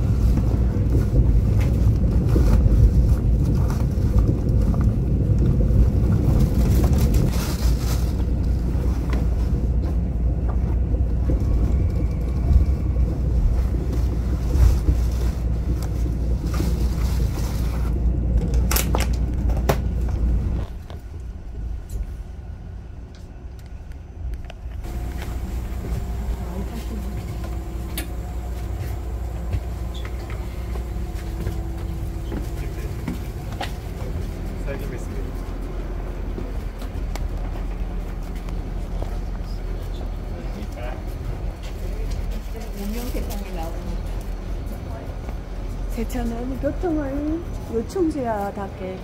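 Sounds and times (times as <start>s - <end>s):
train running rumble: 0.0s - 49.0s.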